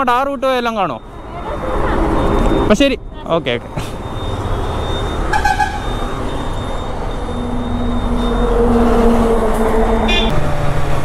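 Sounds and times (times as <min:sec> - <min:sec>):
motorcycle engine drone: 0:01.0 - 0:11.0.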